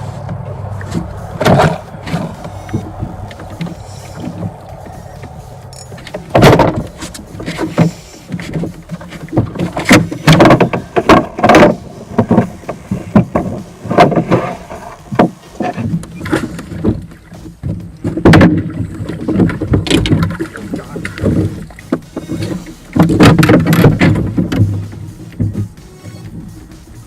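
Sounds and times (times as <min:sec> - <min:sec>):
handling knocks and bumps: 0:00.2 - 0:25.9.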